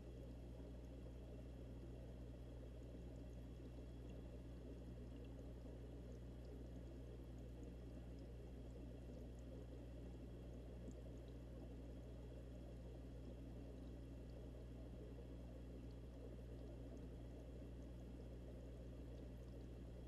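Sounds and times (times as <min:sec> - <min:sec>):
aquarium bubbling underwater: 0:00.0 - 0:20.0
steady low hum: 0:00.0 - 0:20.0.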